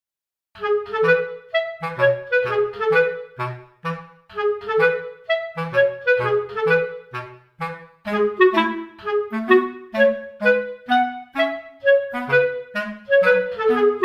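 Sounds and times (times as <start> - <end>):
bouncy woodwind tune: 0.6 - 14.0.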